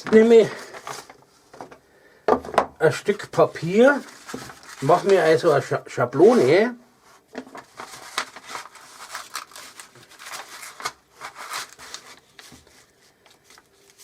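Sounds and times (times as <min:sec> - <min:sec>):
paper rustling and crinkling: 0:00.0 - 0:01.8, 0:03.4 - 0:06.5, 0:07.4 - 0:14.0.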